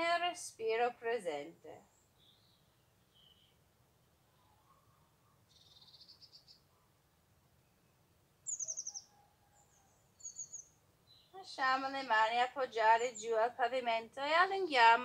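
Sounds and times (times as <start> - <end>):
songbirds singing: 1.8 - 6.7, 7.6 - 15.0.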